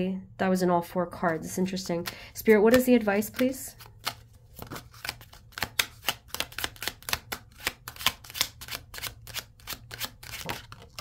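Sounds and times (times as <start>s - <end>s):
cards being shuffled: 1.3s - 11.0s.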